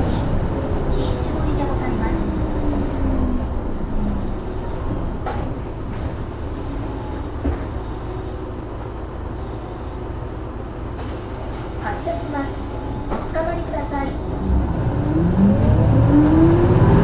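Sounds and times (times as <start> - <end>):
bus interior rumble: 0.0 - 17.0.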